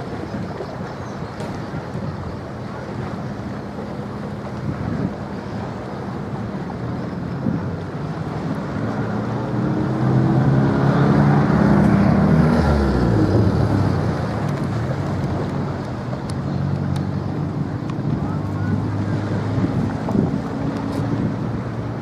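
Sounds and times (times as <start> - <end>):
engine passing by: 2.7 - 22.0.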